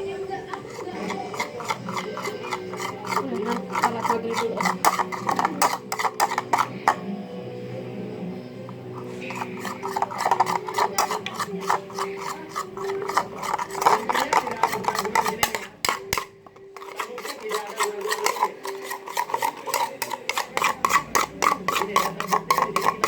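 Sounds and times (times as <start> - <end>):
scraping strokes on craft material: 0.4 - 7.0, 8.9 - 23.0.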